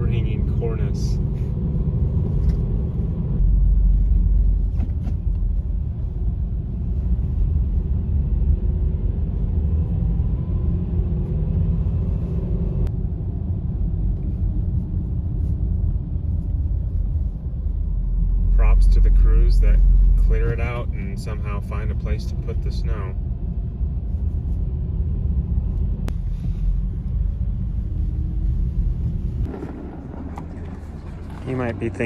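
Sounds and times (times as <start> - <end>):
car driving on a road: 0.0 - 32.0.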